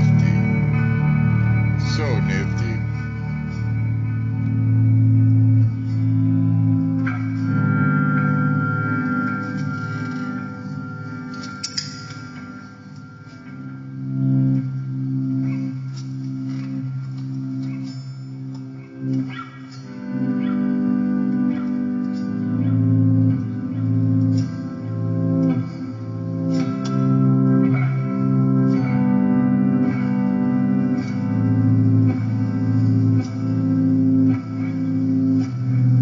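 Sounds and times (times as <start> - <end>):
guitar playing: 0.0 - 36.0.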